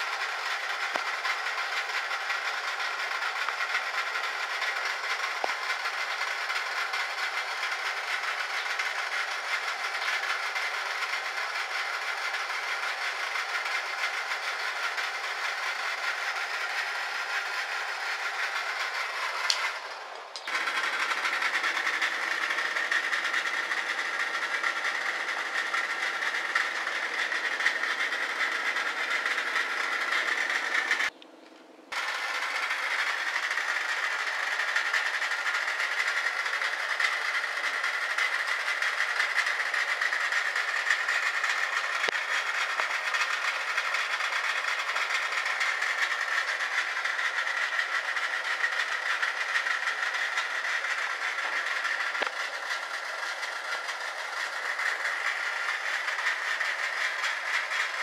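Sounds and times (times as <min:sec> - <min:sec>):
bubble machine motor and fan: 0:00.0 - 0:58.0.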